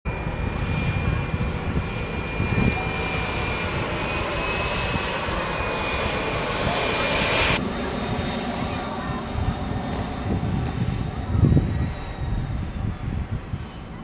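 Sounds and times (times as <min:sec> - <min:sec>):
jet engines roaring with whine: 0:00.1 - 0:14.0.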